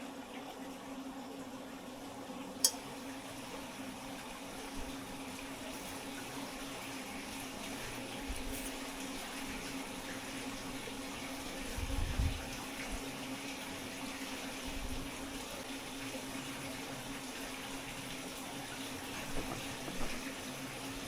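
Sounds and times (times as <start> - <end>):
water running from tap: 0.0 - 21.0.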